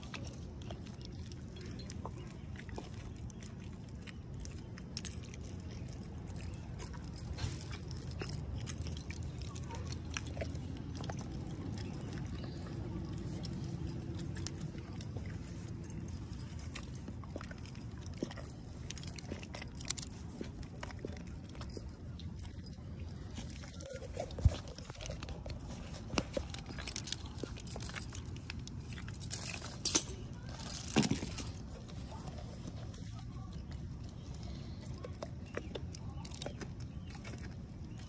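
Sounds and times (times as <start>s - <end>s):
dog licking and chewing meat: 0.0s - 29.5s, 31.2s - 38.0s
metal chain clinking: 0.0s - 32.0s.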